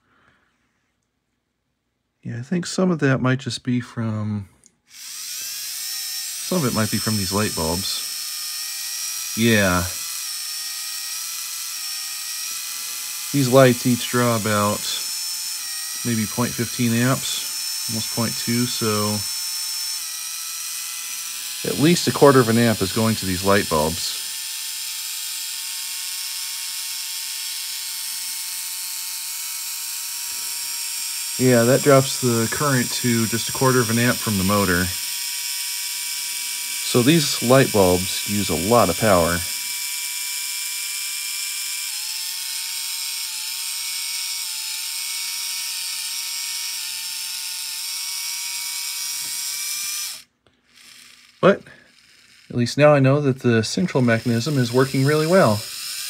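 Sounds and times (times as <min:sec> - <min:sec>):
small electric motor whining: 0:04.9 - 0:56.0.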